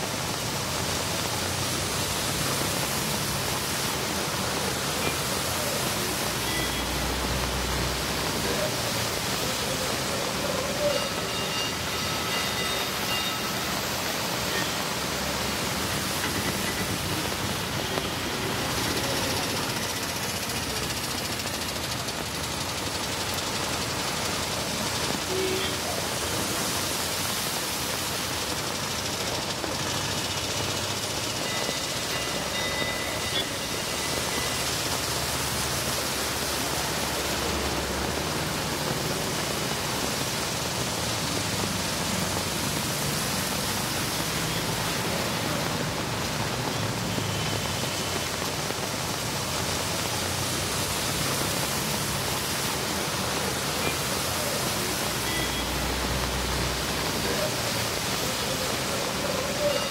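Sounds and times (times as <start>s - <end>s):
heavy rain hiss: 0.0s - 59.9s
running floodwater: 0.0s - 59.9s.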